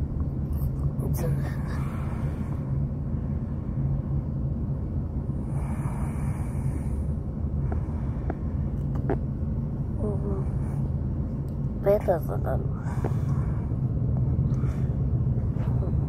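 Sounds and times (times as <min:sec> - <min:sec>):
car engine rumble and road noise: 0:00.0 - 0:16.0.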